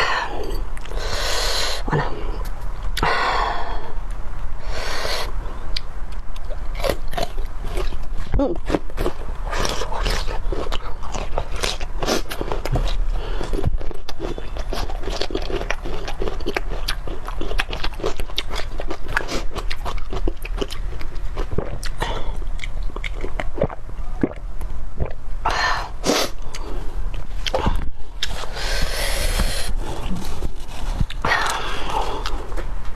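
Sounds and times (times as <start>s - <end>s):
person chewing and crunching: 5.1s - 32.8s.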